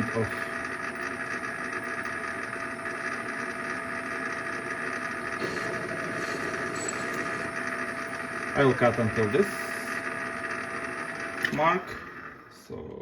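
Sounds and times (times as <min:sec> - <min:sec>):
lathe motor humming with whine: 0:00.0 - 0:12.8.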